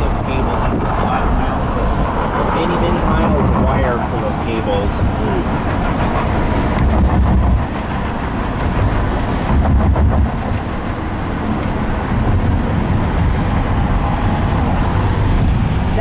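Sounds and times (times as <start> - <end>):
car road and engine rumble: 0.0 - 16.0
faint ticks and clacks: 0.2 - 14.9.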